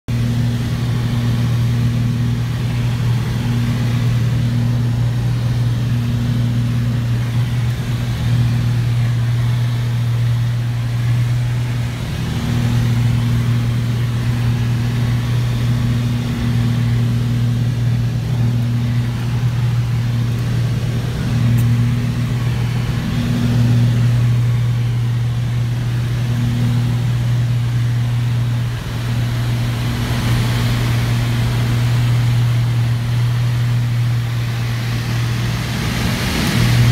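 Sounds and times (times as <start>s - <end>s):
propeller plane engines droning: 0.1s - 36.9s.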